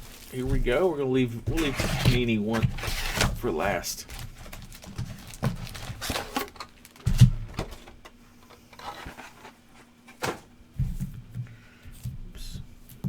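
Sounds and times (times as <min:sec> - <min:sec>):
card packs rustling: 0:00.0 - 0:10.6.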